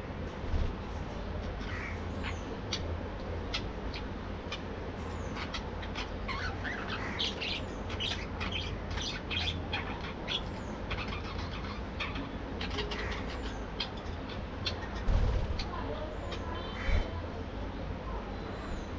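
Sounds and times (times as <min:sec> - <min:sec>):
steady low hum: 0:00.0 - 0:18.9
budgerigars chattering: 0:01.6 - 0:17.2.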